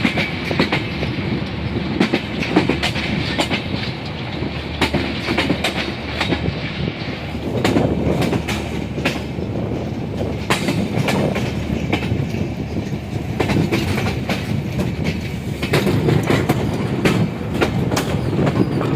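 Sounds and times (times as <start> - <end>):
train rumbling along rails: 0.0 - 18.9
wheels clacking over rail joints: 0.0 - 18.9.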